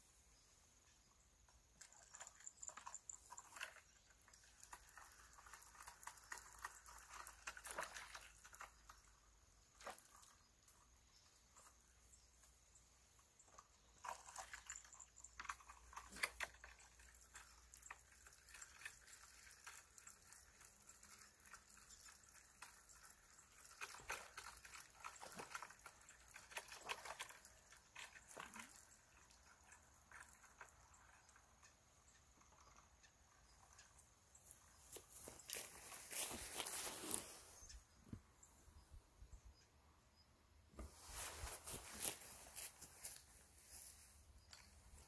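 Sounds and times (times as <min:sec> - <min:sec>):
faint ticks and rustles: 0:00.0 - 0:39.8, 0:40.8 - 0:45.0.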